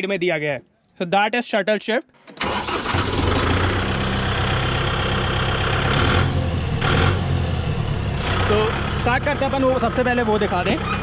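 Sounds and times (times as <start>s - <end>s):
diesel tractor engine starting and idling: 2.2s - 11.0s.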